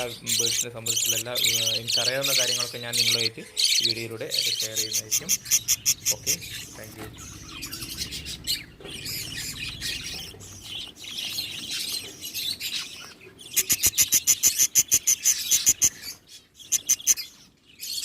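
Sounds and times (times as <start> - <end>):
budgerigars chattering and warbling: 0.0 - 18.0.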